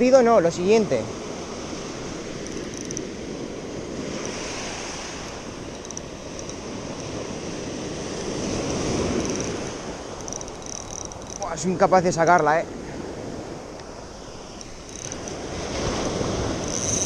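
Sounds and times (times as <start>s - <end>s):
surf washing against rocks: 0.0s - 17.0s
wind on microphone: 0.0s - 17.0s.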